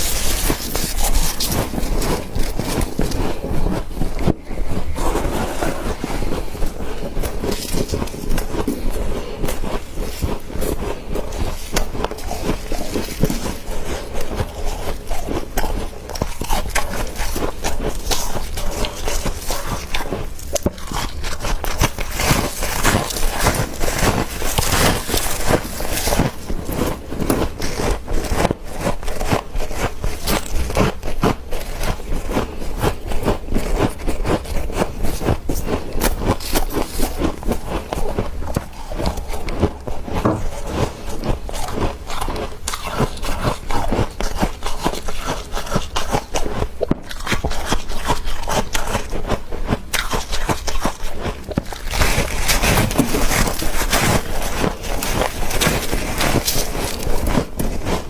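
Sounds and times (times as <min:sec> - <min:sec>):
crunching frost: 0:00.0 - 0:58.0.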